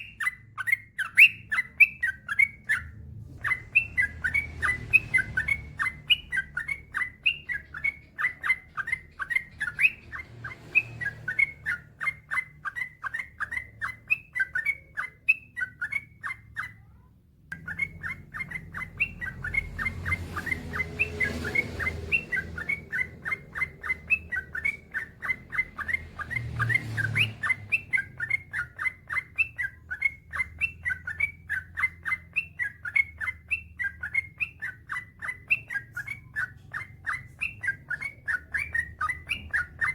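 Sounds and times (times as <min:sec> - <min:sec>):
bulbul singing repeated notes: 0:00.0 - 0:16.9, 0:17.5 - 0:39.9.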